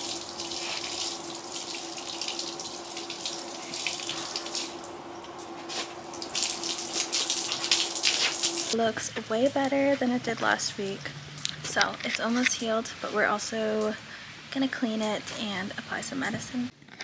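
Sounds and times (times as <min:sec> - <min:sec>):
running water splashing: 0:00.0 - 0:16.4.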